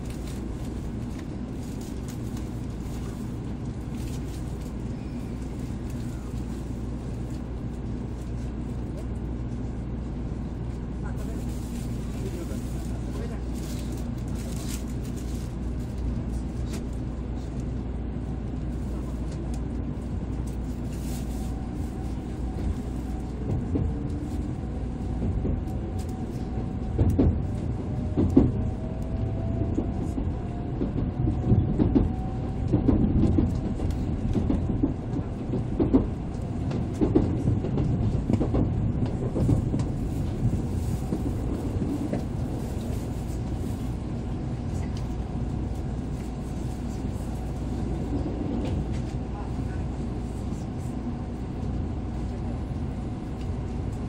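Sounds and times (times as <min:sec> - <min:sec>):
train interior rumble: 0:00.0 - 0:54.0.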